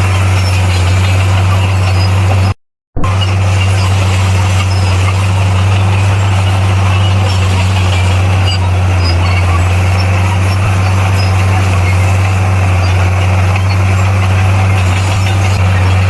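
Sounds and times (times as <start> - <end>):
bulldozer diesel engine humming: 0.0 - 16.0.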